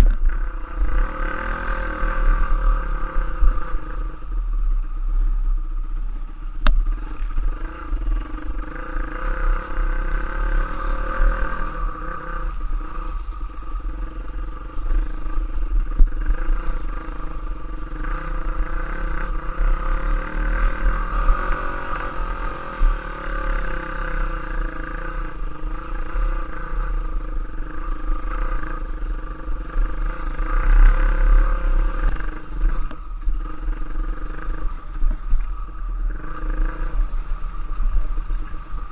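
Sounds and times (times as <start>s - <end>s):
trail motorcycle engine rumbling: 0.0s - 38.9s.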